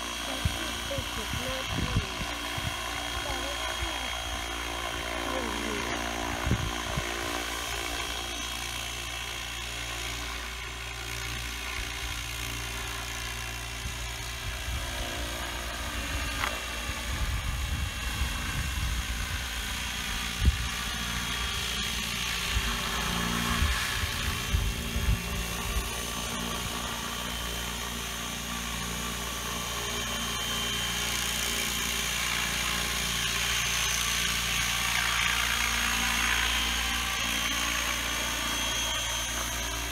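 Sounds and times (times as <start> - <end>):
small helicopter engine whine: 0.0 - 39.9.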